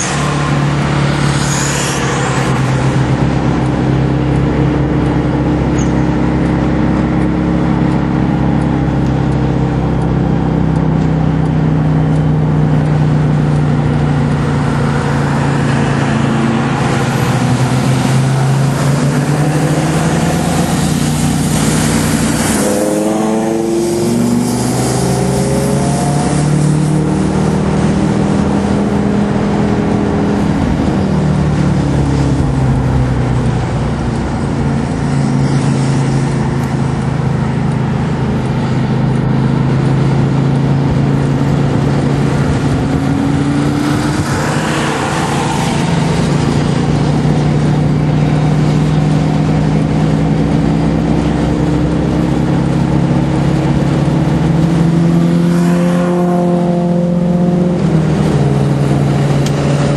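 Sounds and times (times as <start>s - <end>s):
car engine accelerating: 0.0s - 59.9s
road and wind noise: 0.0s - 59.9s.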